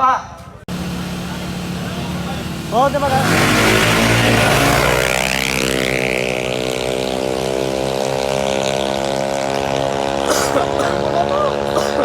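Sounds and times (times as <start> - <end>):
high engine whine: 0.5 - 12.0
scooter engine running: 0.7 - 12.0.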